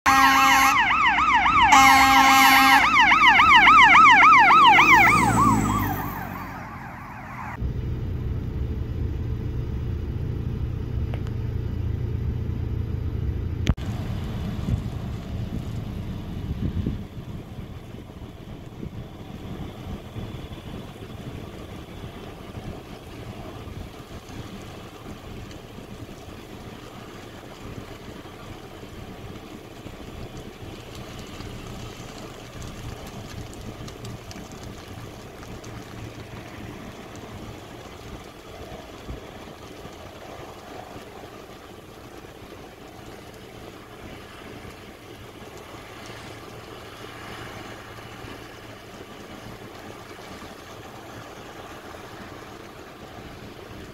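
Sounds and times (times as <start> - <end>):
outdoor noise: 0.0 - 53.9.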